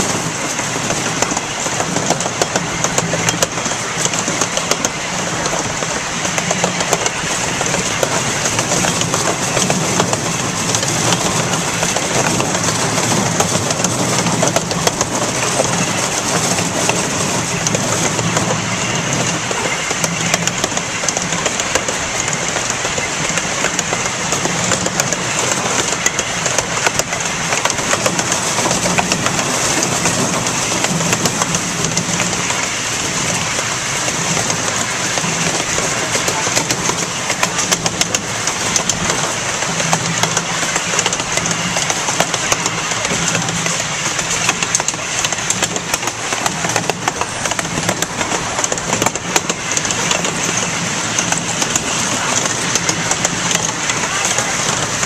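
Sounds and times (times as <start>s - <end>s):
train rolling rumble: 0.0s - 55.0s
wheels clicking and rattling: 0.0s - 55.0s.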